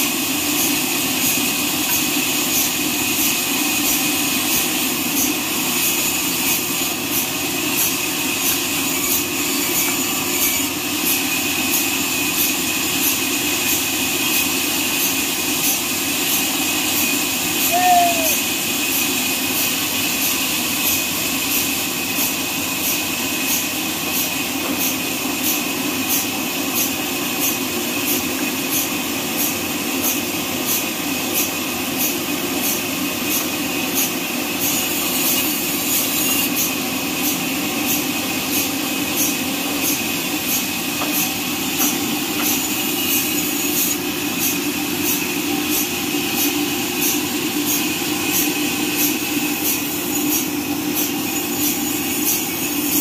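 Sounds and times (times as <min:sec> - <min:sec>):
band sawmill humming: 0:00.0 - 0:21.8, 0:32.4 - 0:53.0.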